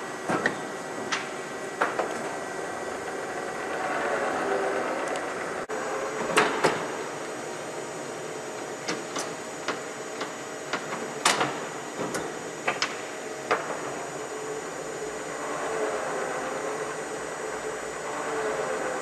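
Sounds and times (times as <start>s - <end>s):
machine running: 0.0s - 9.8s, 13.5s - 19.0s.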